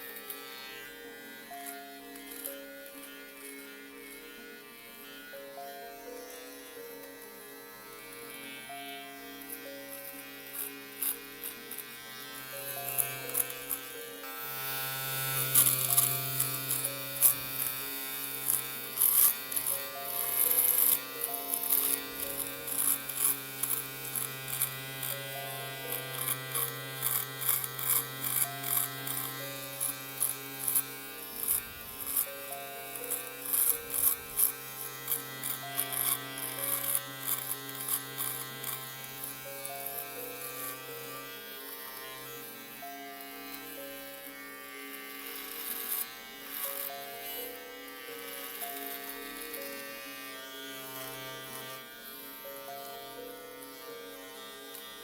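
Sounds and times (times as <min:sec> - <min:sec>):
electric shaver buzzing: 0:00.0 - 0:55.0
plucked-string music: 0:00.0 - 0:55.0.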